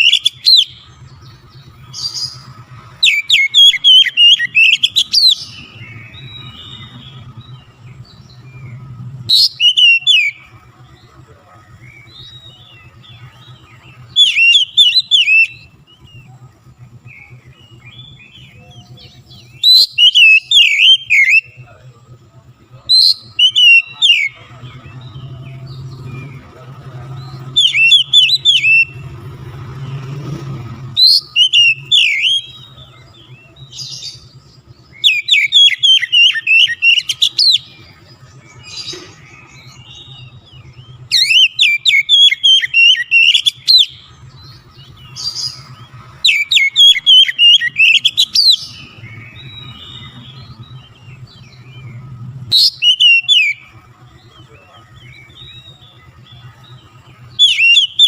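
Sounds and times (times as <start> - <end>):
bird whistles and trills: 0.0 - 10.8, 11.8 - 21.8, 22.7 - 26.6, 27.2 - 58.0.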